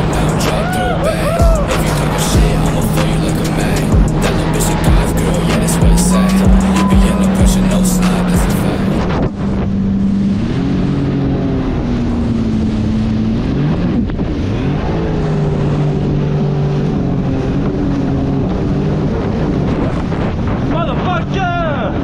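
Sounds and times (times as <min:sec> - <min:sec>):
jet ski engine revving: 0:00.0 - 0:20.7
wind and rushing water: 0:00.0 - 0:22.0.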